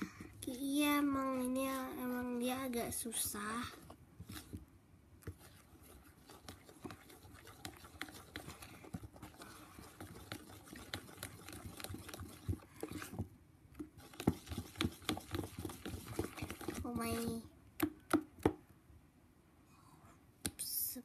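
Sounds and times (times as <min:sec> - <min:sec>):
spoon stirring thick slime: 0:00.0 - 0:18.6.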